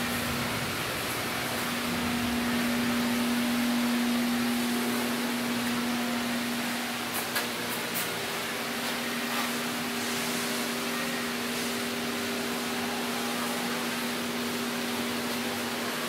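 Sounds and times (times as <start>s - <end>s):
electrical hum and fan hiss: 0.0s - 16.0s.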